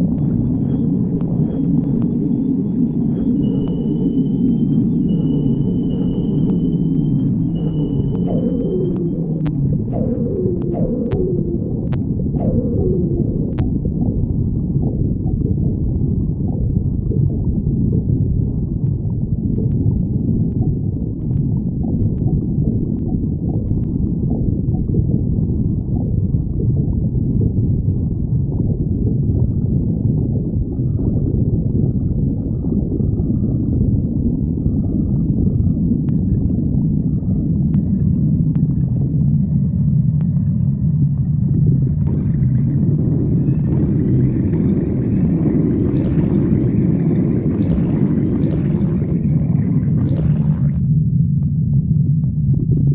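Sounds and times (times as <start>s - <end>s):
stomach growling and gurgling: 0.0s - 52.9s.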